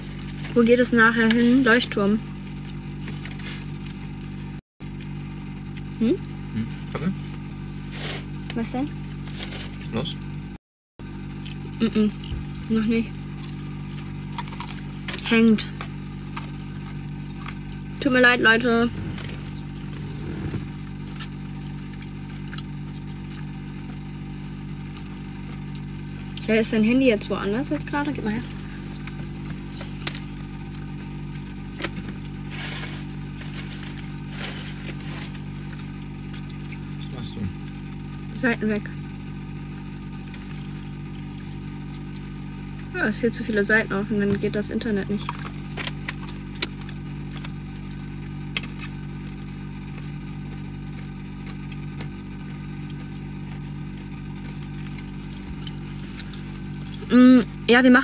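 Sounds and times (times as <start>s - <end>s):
van engine idling: 6.0s - 10.4s, 11.9s - 58.0s.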